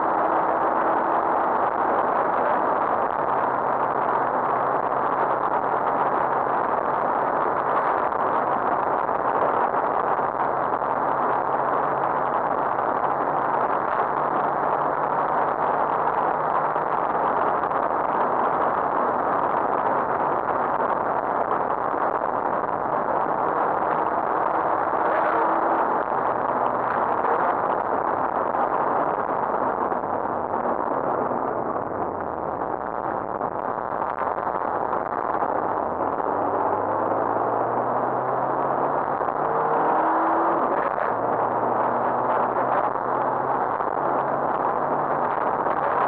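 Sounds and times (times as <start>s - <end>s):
rally car engine in cabin: 0.0s - 46.0s
tyre and wind noise: 0.0s - 46.0s.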